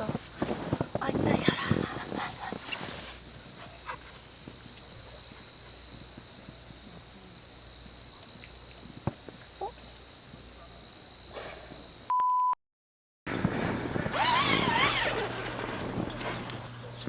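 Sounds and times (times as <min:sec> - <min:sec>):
outdoor noise hiss: 0:00.0 - 0:12.1, 0:13.3 - 0:17.0.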